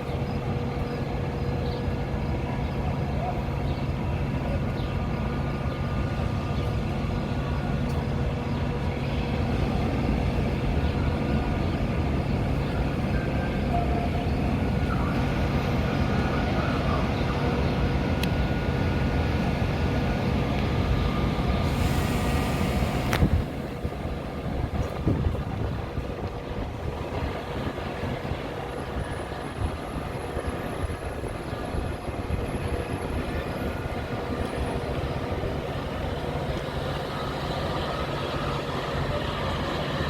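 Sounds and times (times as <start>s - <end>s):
train engine humming: 0.0s - 40.0s.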